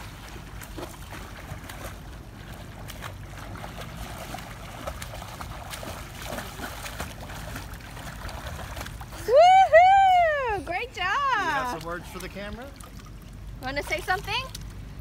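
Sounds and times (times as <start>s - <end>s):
child swimming splashes: 0.0s - 14.1s.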